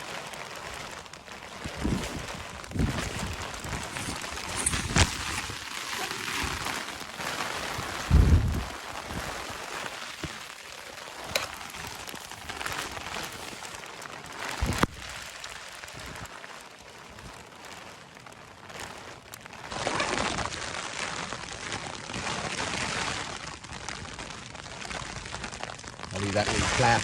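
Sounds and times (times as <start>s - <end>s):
wind buffeting a tent: 0.0s - 24.3s
tent fabric rustling and flapping: 0.0s - 27.0s.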